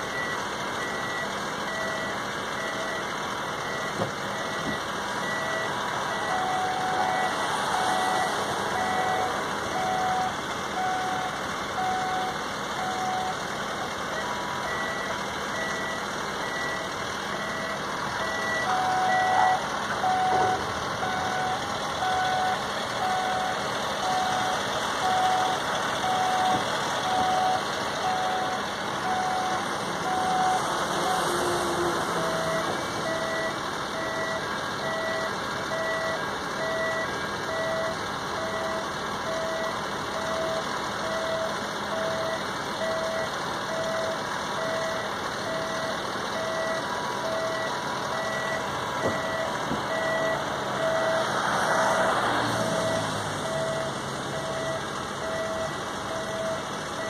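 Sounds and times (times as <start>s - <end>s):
electronic warning beeps: 0.0s - 13.4s, 14.1s - 31.2s, 32.2s - 51.2s, 52.6s - 57.0s.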